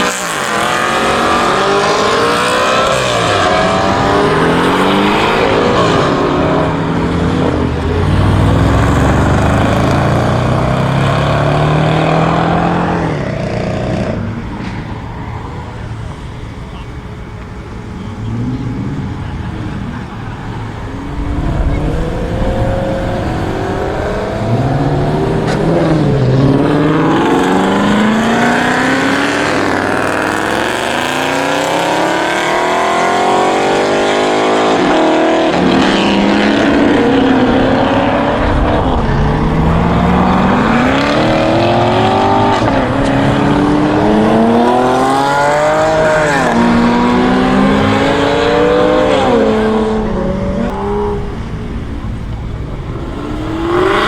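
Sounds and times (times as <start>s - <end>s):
car engines accelerating hard: 0.0s - 54.0s.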